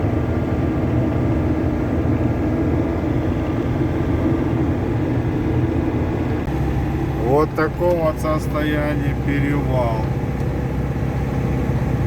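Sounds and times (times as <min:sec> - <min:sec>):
diesel engine drone: 0:00.0 - 0:12.0
road and wind noise: 0:00.0 - 0:12.0.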